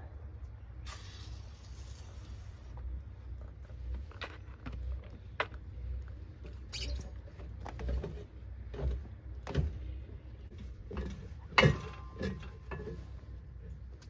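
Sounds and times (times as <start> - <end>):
tire knocking and scraping on rim: 2.7 - 14.0.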